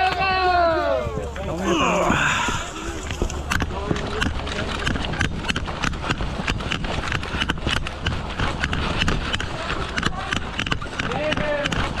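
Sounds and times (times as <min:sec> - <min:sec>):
low rumbling microphone noise: 0:00.0 - 0:12.0.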